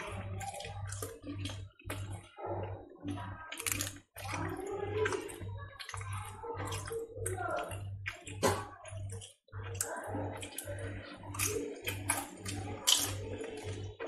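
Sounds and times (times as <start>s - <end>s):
sticky crackles and clicks: 0.0s - 2.4s, 3.0s - 14.0s.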